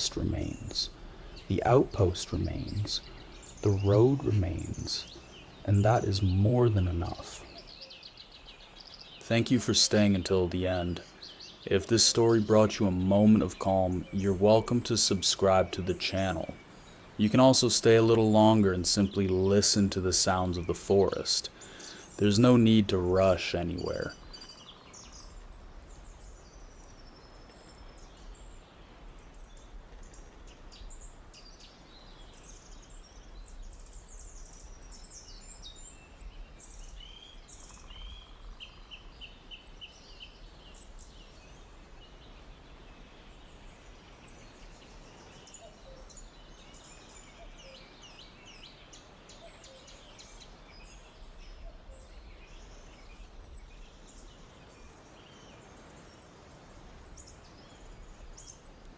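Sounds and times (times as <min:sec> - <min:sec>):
small birds chirping and trilling: 0:00.0 - 0:58.9.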